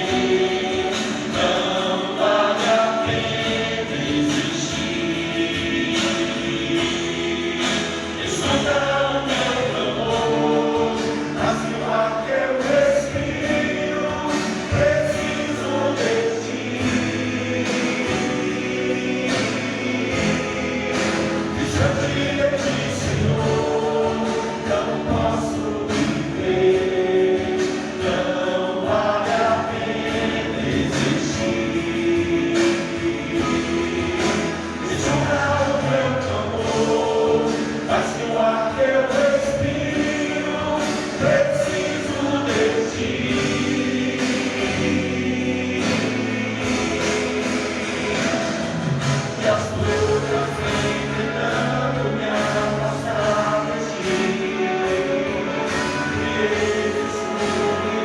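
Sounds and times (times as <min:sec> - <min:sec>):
group singing gospel song: 0:00.0 - 0:58.0
instrumental accompaniment: 0:00.0 - 0:58.0.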